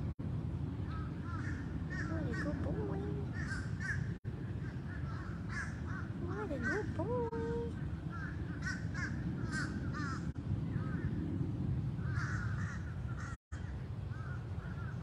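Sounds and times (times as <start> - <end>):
steady low rumble: 0.0 - 15.0
birds cawing: 0.8 - 11.2, 12.0 - 15.0.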